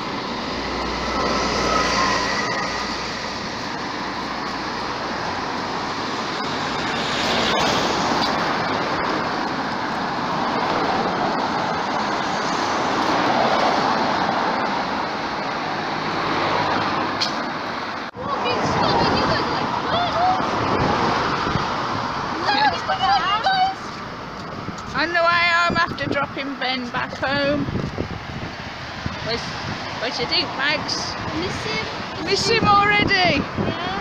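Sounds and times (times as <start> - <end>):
passing vehicles rushing: 0.0 - 34.0.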